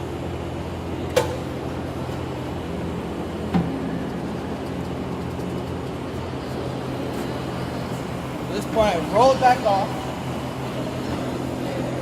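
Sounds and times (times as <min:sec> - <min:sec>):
tire changing machine humming: 0:00.0 - 0:12.0.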